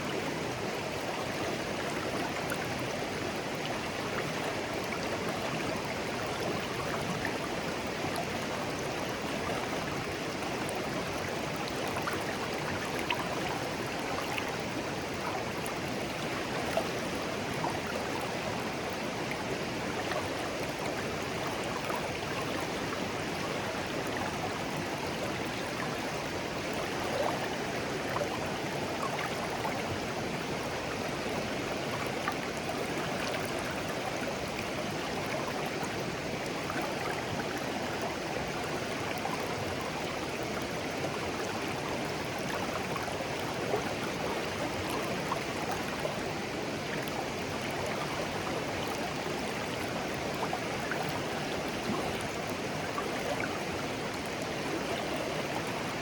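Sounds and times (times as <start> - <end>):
stream babbling over stones: 0.1 - 56.0.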